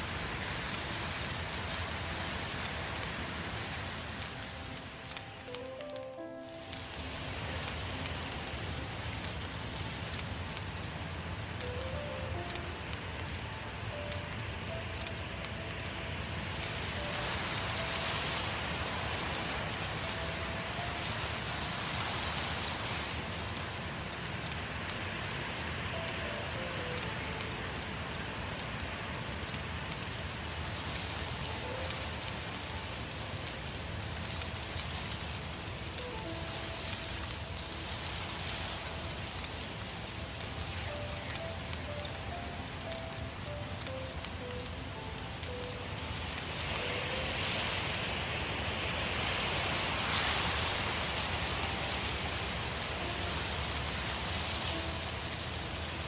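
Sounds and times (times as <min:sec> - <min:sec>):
faint slow music notes: 0:00.0 - 0:56.0
fire burning and crackling: 0:00.0 - 0:56.0.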